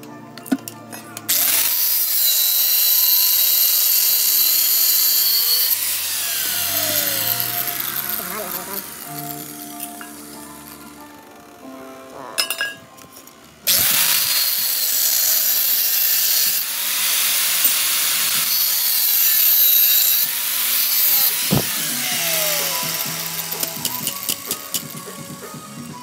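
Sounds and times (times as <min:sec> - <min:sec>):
angle grinder grinding steel: 0:01.3 - 0:25.8.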